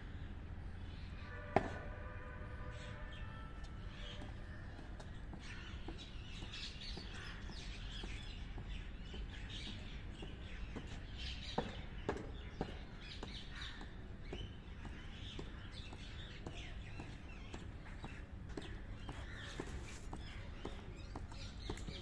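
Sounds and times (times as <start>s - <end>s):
birds chirping and calling: 2.7s - 22.0s
birds cawing: 3.8s - 22.0s.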